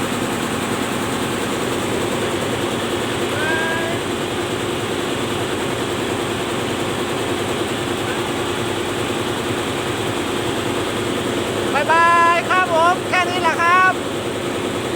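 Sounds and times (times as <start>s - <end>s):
boat engines droning: 0.0s - 14.9s.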